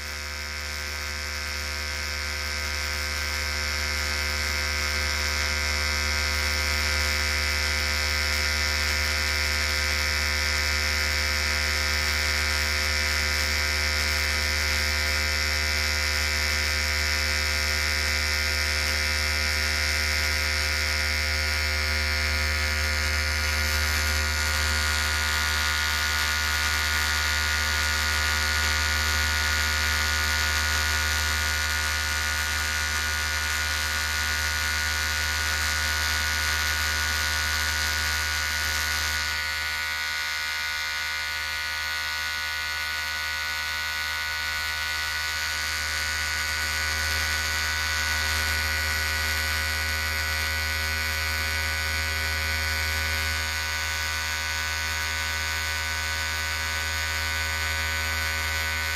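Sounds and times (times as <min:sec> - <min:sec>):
electric hair clippers buzzing: 0:00.0 - 0:58.9.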